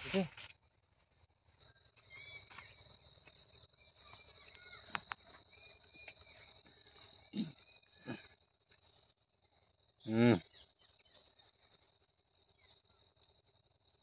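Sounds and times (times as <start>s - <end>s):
insect trill: 0.0s - 14.0s
short insect chirps: 0.0s - 14.0s.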